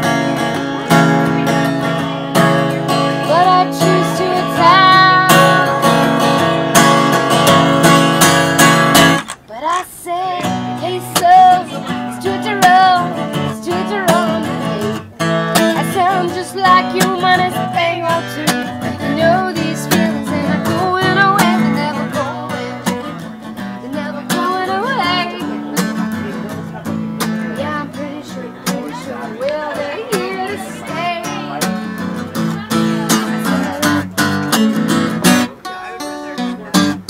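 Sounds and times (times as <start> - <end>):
bending melody line: 0.0 - 9.2, 10.3 - 35.2
acoustic guitar strumming: 0.0 - 37.0.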